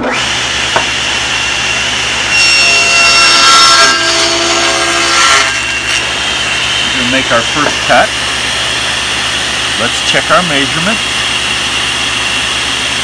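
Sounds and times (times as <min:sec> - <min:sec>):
saw blade cutting wood: 0:00.0 - 0:13.0
table saw running: 0:00.0 - 0:13.0.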